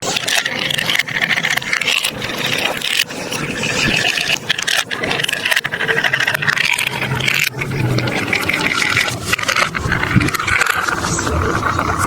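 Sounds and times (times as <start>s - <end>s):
marbles rolling on plastic track: 0.0s - 12.0s.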